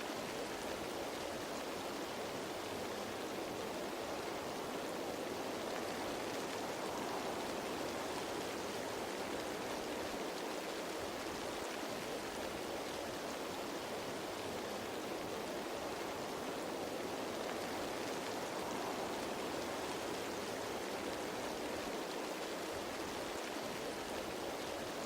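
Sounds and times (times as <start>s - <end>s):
rain falling on leaves: 0.0s - 25.0s.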